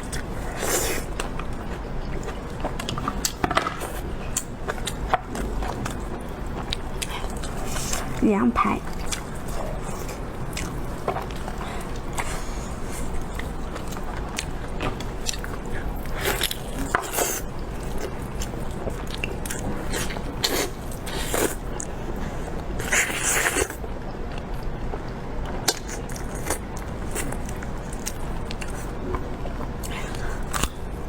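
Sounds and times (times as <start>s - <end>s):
person chewing crunchy food: 0.0s - 8.2s, 8.8s - 31.0s.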